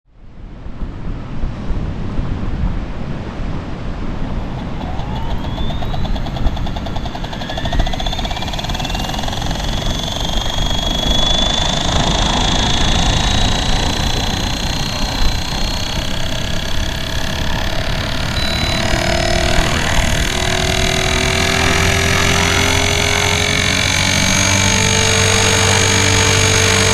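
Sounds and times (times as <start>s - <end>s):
electric helicopter whine: 4.4s - 26.9s
gear grinding noise: 4.4s - 26.9s.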